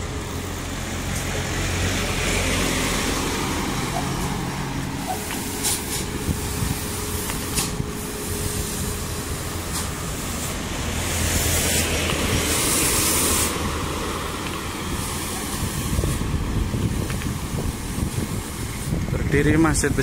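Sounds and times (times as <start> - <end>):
road and wind noise: 0.0 - 20.0
truck diesel engine: 0.0 - 20.0
tyres on concrete road: 0.0 - 20.0.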